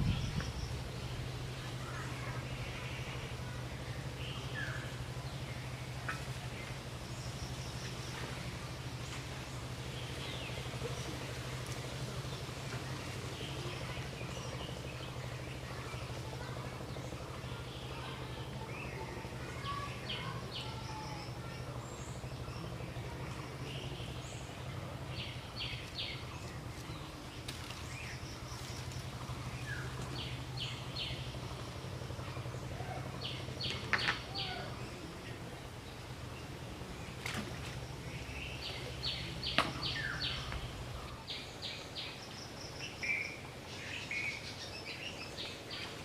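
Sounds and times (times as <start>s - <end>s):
birds chirping: 0.0s - 46.0s
steady low hum: 0.0s - 46.0s.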